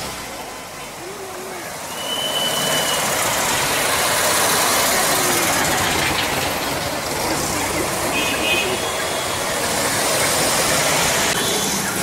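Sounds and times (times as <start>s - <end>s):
car engines driving past: 0.0s - 12.0s.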